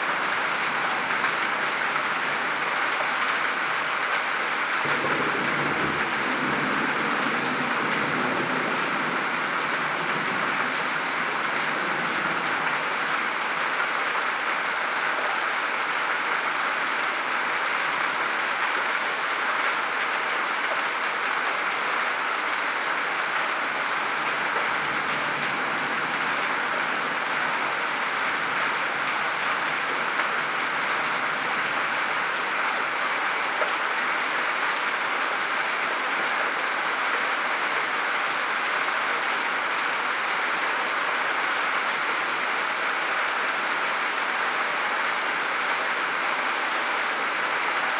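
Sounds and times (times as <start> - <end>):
hail and heavy rain falling: 0.0 - 47.9.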